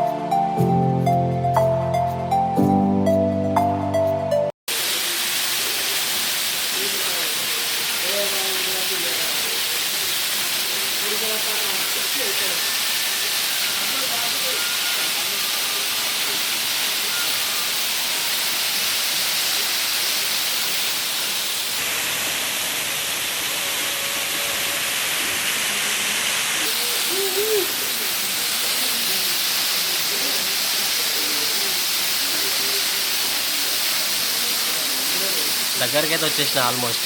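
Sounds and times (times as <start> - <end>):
waterfall rushing: 4.7 - 37.0.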